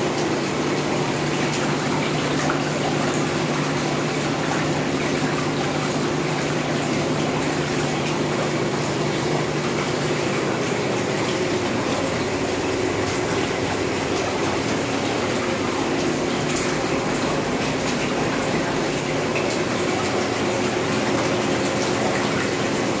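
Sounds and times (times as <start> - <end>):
churning bubbling water: 0.0 - 23.0
jet pump motor humming: 0.0 - 23.0.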